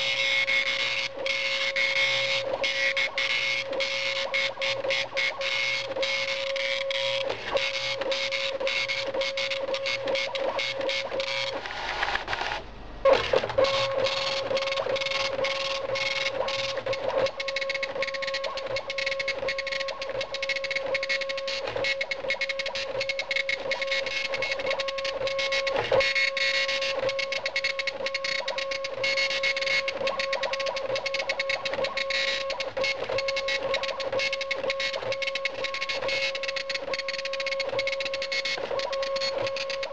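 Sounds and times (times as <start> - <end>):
dot matrix printer printing: 0.0 - 39.9.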